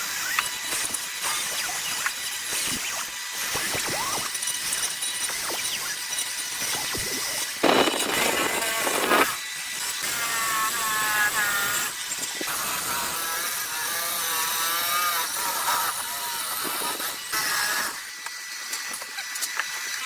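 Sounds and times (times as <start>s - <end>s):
power tool cutting wood: 0.0s - 20.0s.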